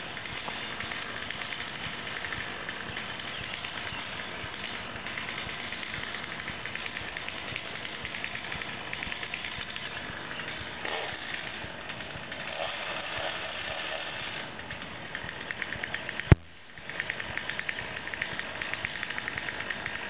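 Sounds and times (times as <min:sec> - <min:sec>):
chainsaw engine idling: 0:00.0 - 0:20.0.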